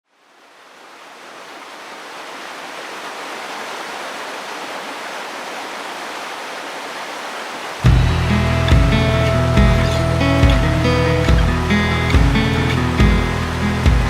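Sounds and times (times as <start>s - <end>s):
stream water rushing: 0.1s - 14.0s.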